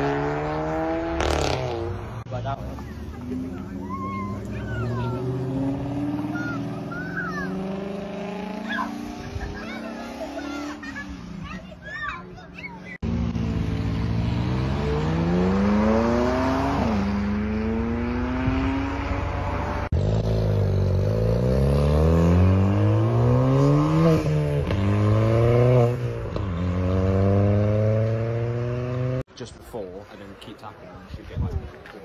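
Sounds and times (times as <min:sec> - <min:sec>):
car engines accelerating hard: 0:00.0 - 0:11.7, 0:12.9 - 0:29.3.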